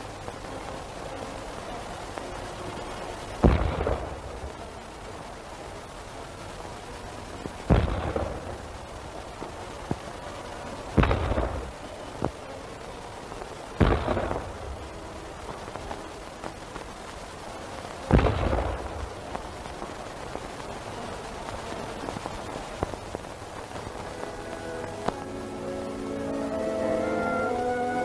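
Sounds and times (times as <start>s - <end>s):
old film soundtrack hiss: 0.0s - 28.0s.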